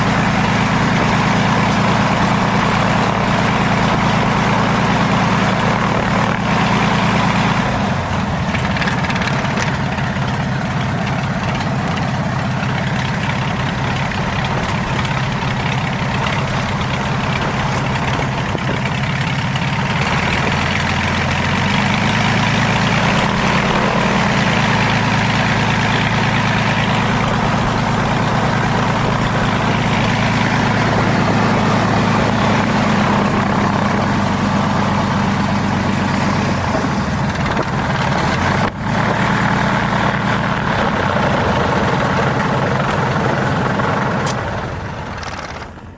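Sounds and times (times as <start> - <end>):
piston engine running: 0.0 - 45.9.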